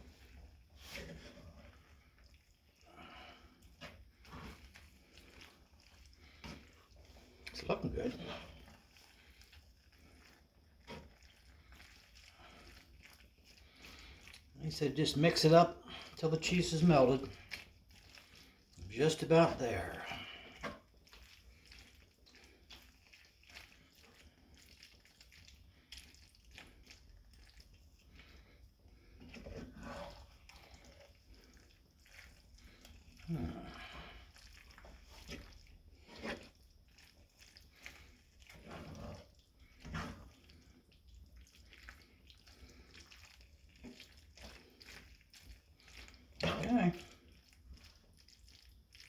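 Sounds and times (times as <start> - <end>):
spoon stirring pasta in sauce: 0.0 - 49.0.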